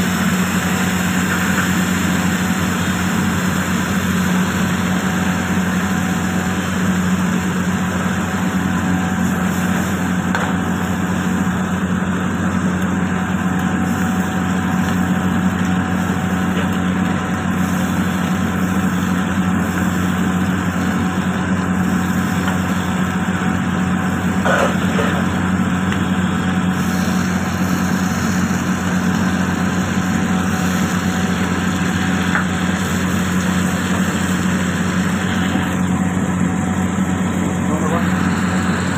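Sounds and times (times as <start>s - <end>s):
crab frying in bubbling oil: 0.0s - 38.9s.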